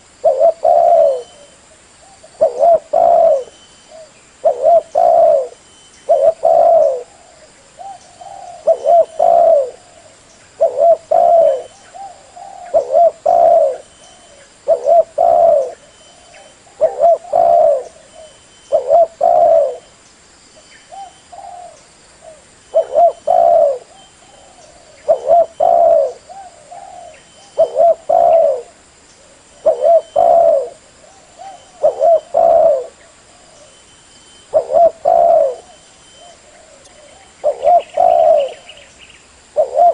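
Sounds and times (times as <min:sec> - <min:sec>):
dove cooing: 0:00.0 - 0:19.9, 0:20.9 - 0:33.8, 0:34.5 - 0:38.9, 0:39.5 - 0:39.9.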